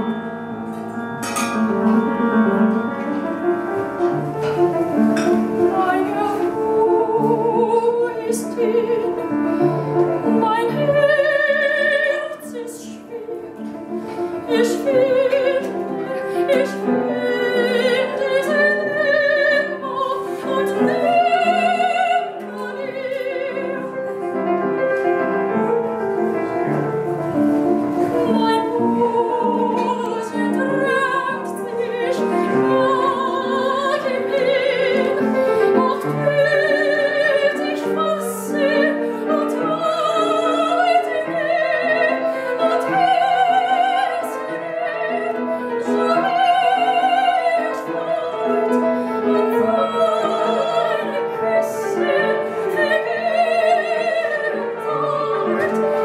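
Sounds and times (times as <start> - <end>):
piano accompaniment: 0.0 - 56.0.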